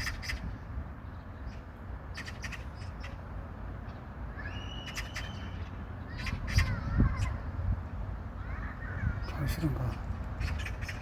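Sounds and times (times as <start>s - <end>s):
bird calls: 0.0s - 7.6s, 8.3s - 11.0s
low wind rumble: 0.0s - 11.0s.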